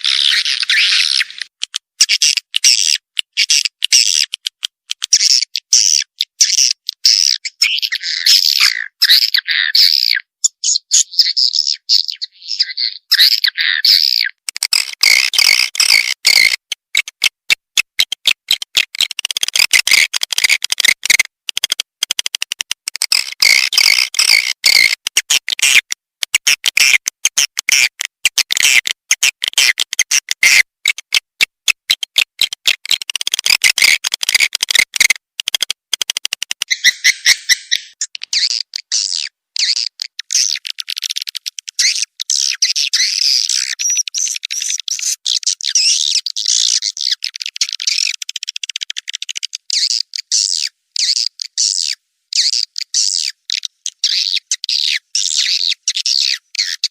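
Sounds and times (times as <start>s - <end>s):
swiftlets twittering and clicking: 0.0s - 10.1s, 13.1s - 51.7s.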